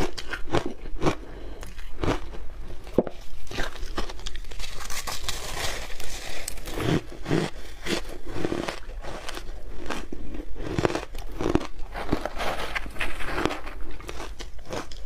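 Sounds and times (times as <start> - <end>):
ice crunching as chewed: 0.0 - 15.0.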